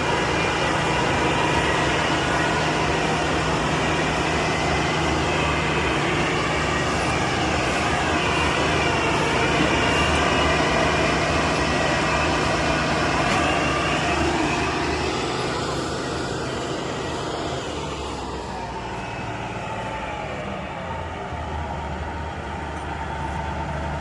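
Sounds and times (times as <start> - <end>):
heavy diesel farm machinery running: 0.0 - 24.0.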